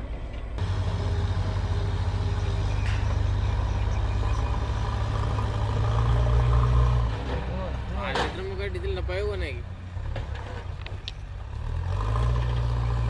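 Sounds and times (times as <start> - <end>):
heavy diesel machinery engine running: 0.6 - 13.0.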